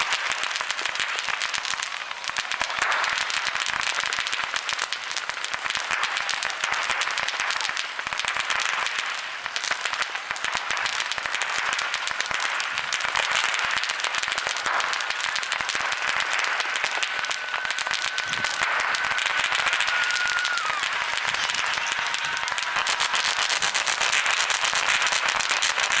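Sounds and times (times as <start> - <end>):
fireworks crackling: 0.0 - 26.0
high firework whistle: 0.0 - 26.0.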